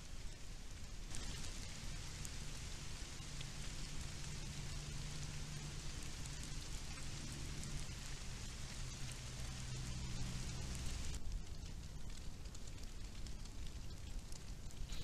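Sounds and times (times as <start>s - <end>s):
low hum: 0.0s - 15.0s
steady hiss: 0.0s - 15.0s.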